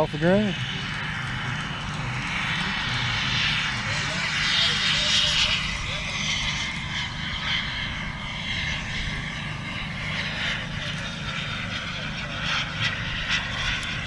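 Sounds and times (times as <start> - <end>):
model jet turbine rushing: 0.0 - 14.0.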